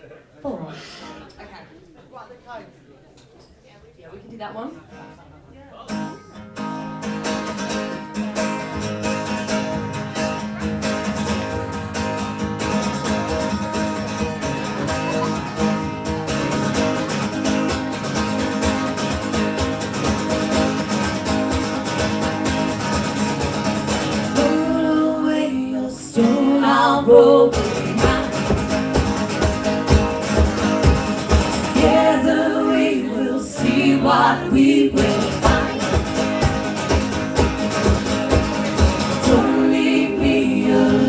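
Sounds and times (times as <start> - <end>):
acoustic guitar strumming: 5.9 - 41.0.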